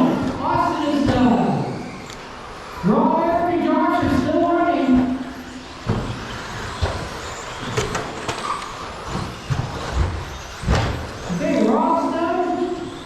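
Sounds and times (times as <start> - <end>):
rc trucks running: 0.1 - 13.0.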